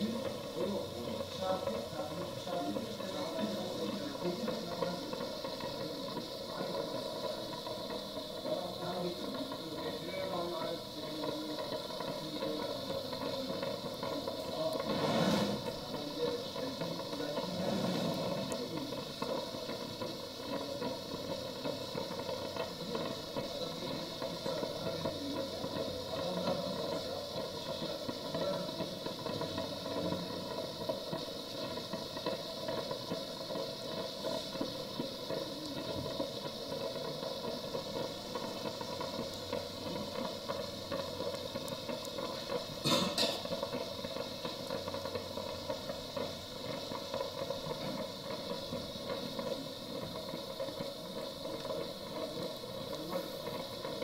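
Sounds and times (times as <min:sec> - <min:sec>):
facial steamer hissing: 0:00.0 - 0:54.0.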